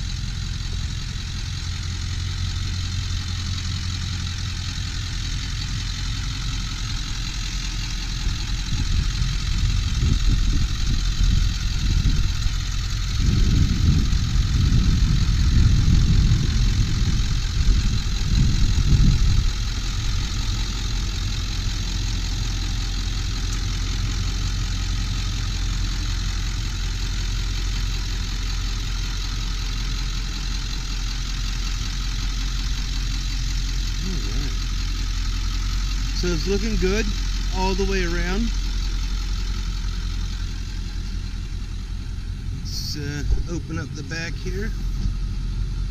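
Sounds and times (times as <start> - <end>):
diesel engine idling: 0.0 - 45.9
uneven low rumble: 0.0 - 45.9.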